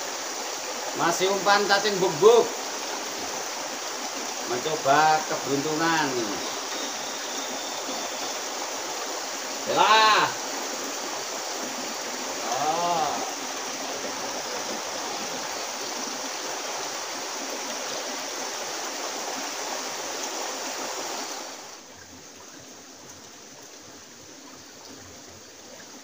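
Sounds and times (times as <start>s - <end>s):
stream running over rocks: 0.0s - 26.0s.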